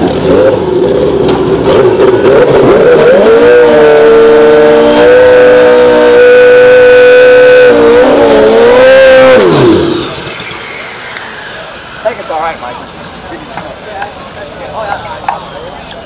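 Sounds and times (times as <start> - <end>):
motorbike engine revving: 0.0 - 15.5
rear tyre spinning: 0.0 - 16.0.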